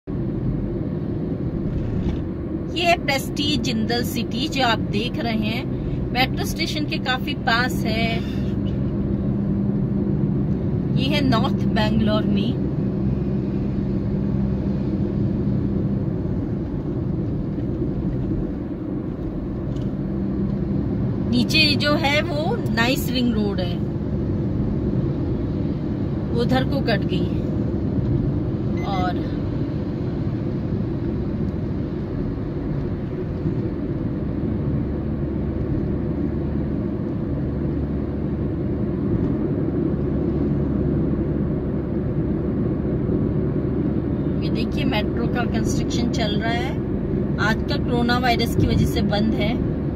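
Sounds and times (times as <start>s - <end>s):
car cabin road noise: 0.1s - 49.9s.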